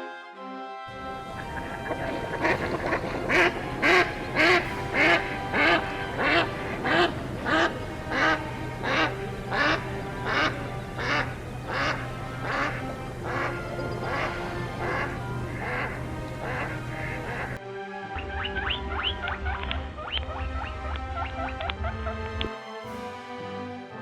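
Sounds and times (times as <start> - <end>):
background music: 0.0 - 24.0
duck quacking: 1.0 - 17.6, 18.2 - 22.5.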